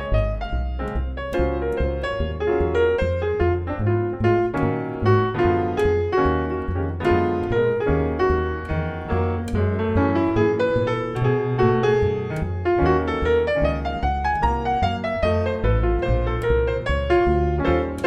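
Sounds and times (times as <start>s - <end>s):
double bass playing low notes: 0.0s - 18.0s
jazz piano solo: 0.0s - 18.0s.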